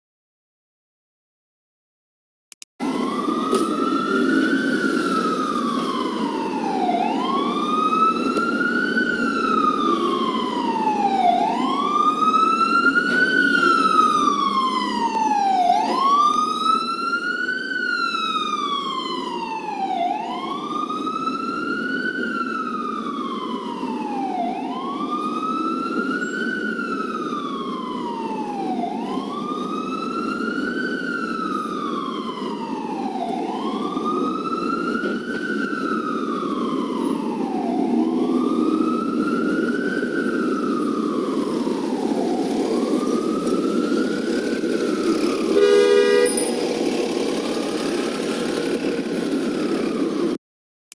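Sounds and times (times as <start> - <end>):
ambulance siren wailing: 2.8 - 50.4.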